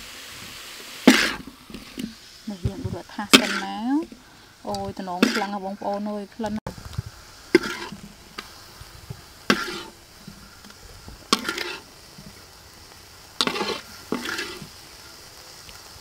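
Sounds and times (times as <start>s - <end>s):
faint steady sizzle: 0.0s - 16.0s
sauce sizzling in hot tray: 0.0s - 16.0s.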